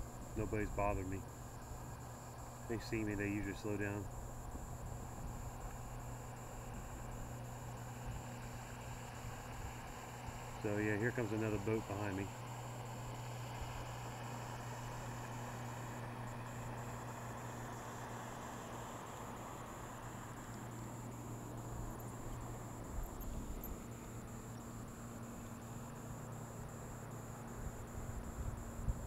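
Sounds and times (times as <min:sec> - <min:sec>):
motorboat engine humming: 0:00.0 - 0:29.0
wind: 0:00.0 - 0:29.0.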